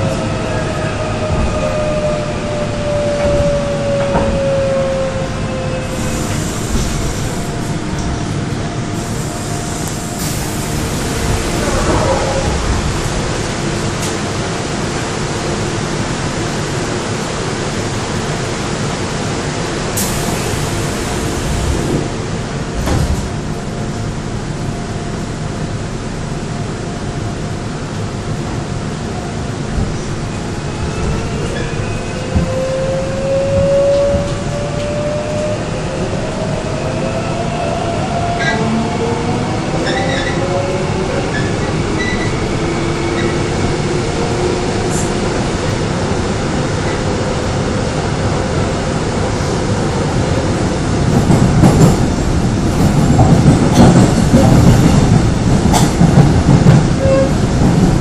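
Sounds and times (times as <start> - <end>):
train car rushing noise: 0.0 - 58.0.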